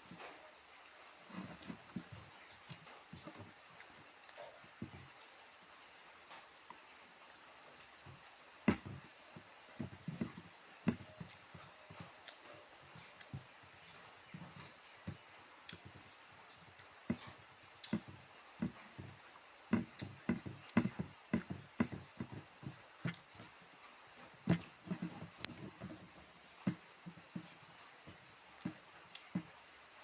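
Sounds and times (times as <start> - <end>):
person chewing food: 1.2 - 5.3, 7.8 - 29.8.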